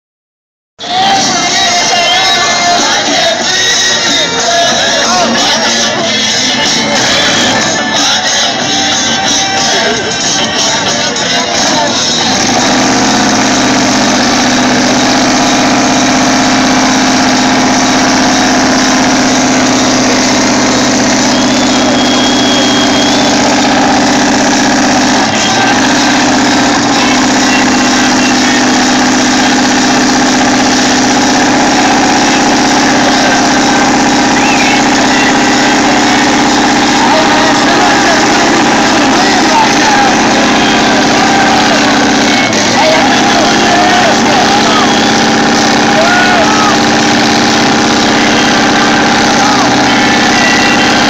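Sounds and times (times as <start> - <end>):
pickup truck engines running: 0.8 - 51.0.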